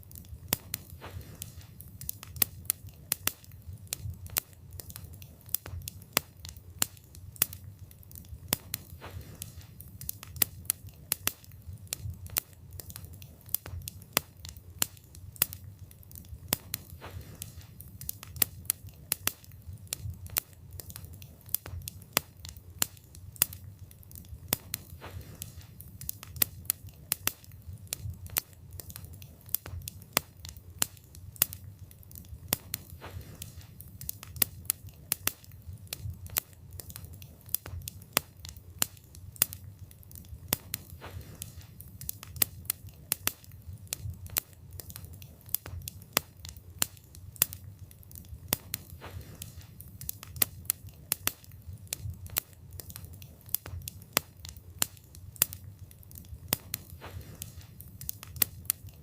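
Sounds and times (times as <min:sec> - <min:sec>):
burning wood crackling and popping: 0:00.0 - 0:59.0
low rumble of fire flames: 0:00.0 - 0:59.0.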